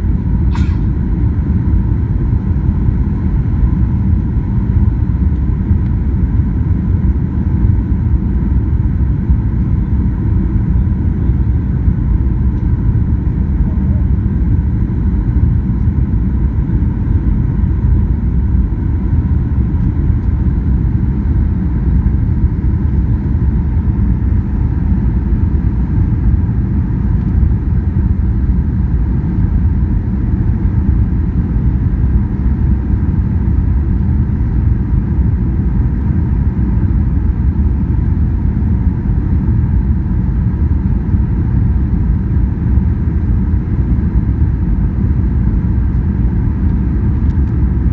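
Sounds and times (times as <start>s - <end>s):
airliner engines and airflow rumble: 0.0s - 47.9s
faint steady hum: 0.0s - 47.9s.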